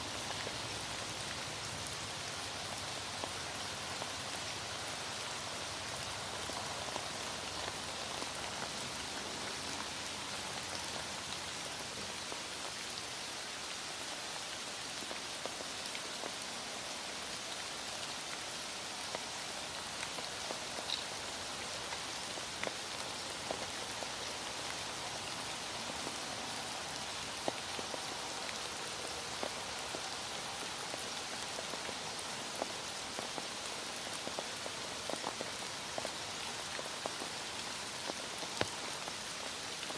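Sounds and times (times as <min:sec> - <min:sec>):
heavy rain: 0:00.0 - 0:39.9
raindrops ticking on a surface: 0:00.0 - 0:39.9.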